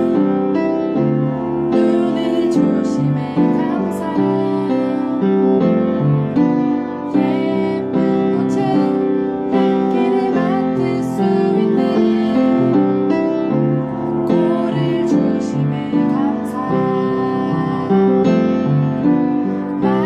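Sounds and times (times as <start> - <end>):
piano playing a song: 0.0 - 20.0.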